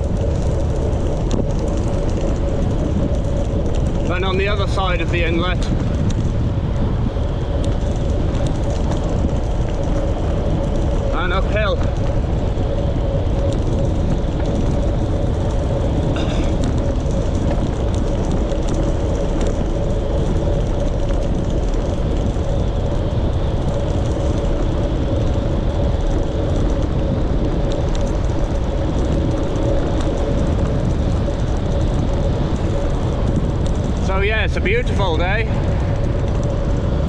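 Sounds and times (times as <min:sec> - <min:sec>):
bicycle road noise: 0:00.0 - 0:37.0
constant steady hum: 0:00.0 - 0:37.0
rushing wind: 0:00.0 - 0:37.0.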